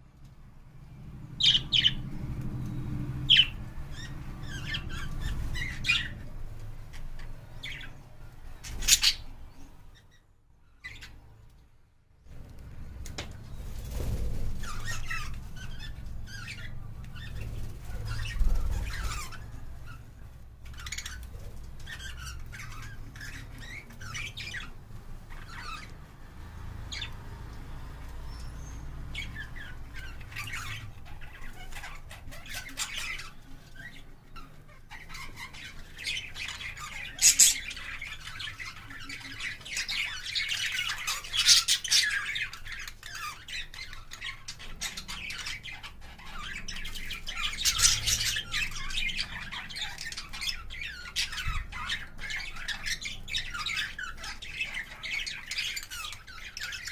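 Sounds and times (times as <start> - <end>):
budgerigars chirping and squawking: 1.3 - 11.3, 13.2 - 56.9.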